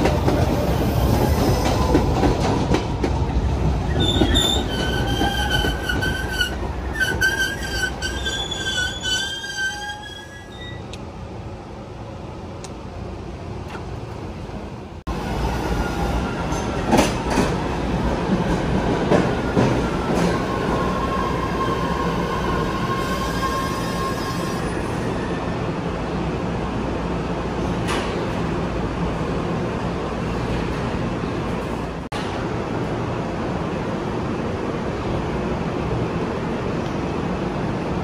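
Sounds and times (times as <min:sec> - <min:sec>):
subway train rumble and hum: 0:00.0 - 0:38.0.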